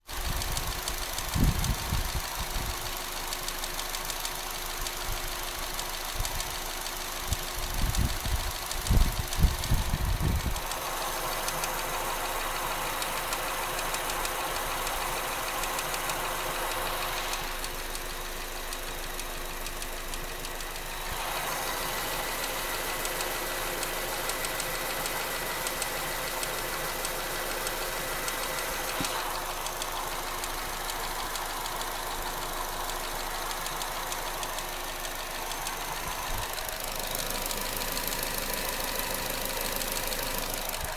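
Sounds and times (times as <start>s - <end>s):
car engine idling with ticking: 0.0s - 40.9s.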